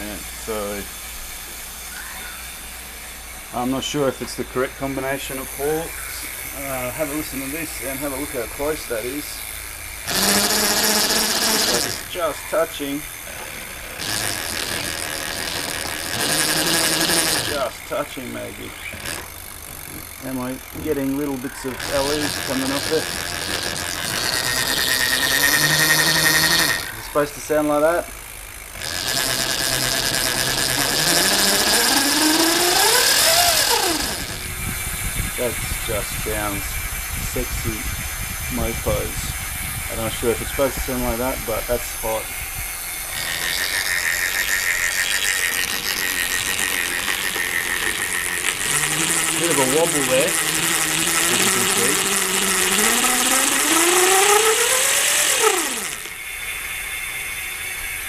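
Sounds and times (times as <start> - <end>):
electric bike motor whine: 0.0 - 58.0.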